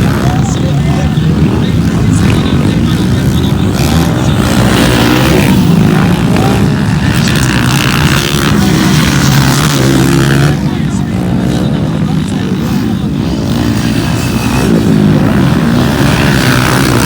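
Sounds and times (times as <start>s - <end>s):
motorcycle engines running hard: 0.0s - 17.0s.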